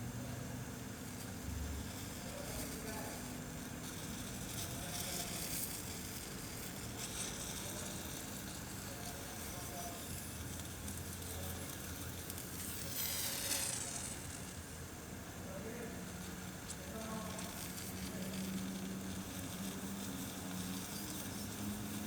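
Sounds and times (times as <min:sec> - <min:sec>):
orange peel sizzling over flame: 0:00.0 - 0:22.0.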